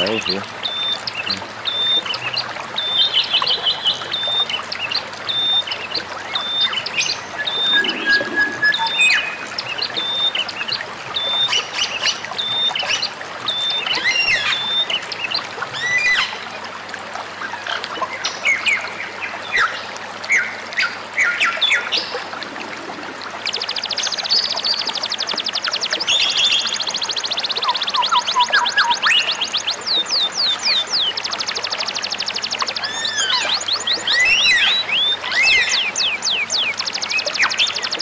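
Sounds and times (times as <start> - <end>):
songbirds whistling and chirping: 0.0 - 16.5, 23.4 - 38.0.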